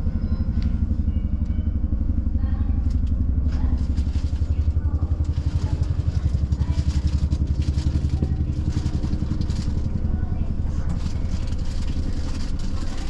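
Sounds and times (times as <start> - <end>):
train machinery hum: 0.0 - 13.0.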